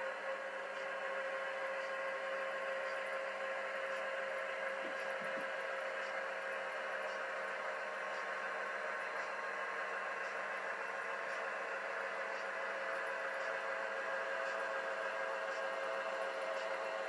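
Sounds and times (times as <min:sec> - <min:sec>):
model train hum: 0:00.0 - 0:17.0.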